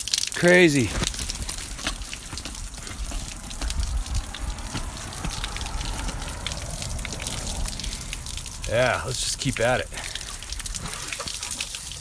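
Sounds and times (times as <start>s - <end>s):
water gushing and splashing: 0.4s - 12.0s
low rumble: 0.7s - 12.0s.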